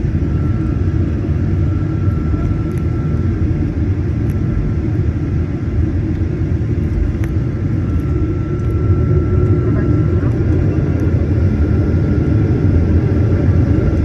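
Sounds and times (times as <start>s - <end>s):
faint high whine: 0.0s - 14.0s
low rumble of engines and airflow: 0.0s - 14.0s.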